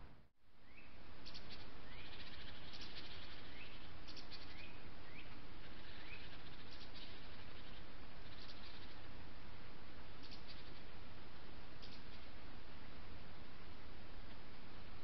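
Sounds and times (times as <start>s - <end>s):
microphone hiss: 0.0s - 15.0s
small birds chirping and twittering: 0.0s - 15.0s.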